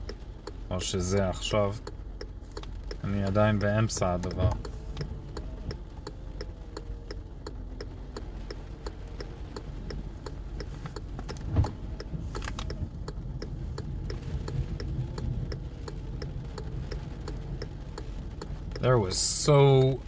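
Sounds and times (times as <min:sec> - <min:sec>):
low engine rumble: 0:00.0 - 0:20.0
turn-signal ticking: 0:00.0 - 0:20.0.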